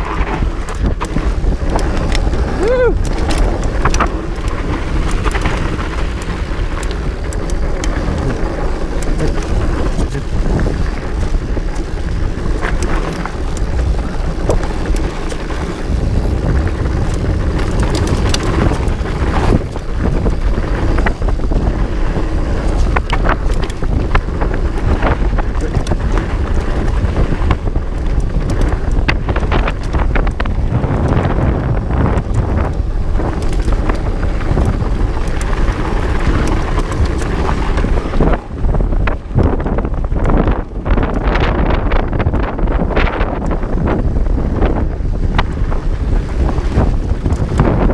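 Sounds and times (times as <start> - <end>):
bike clicks and knocks: 0.0 - 47.9
wind buffeting microphone: 0.0 - 47.9.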